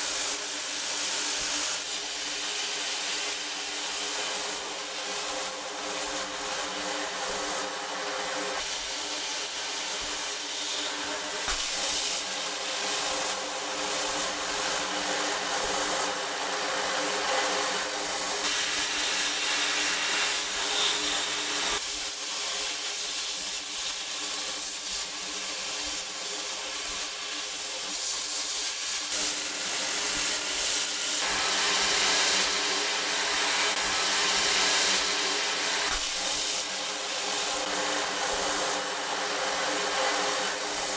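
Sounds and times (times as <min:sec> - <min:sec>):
sandblasting gun hissing: 0:00.0 - 0:40.9.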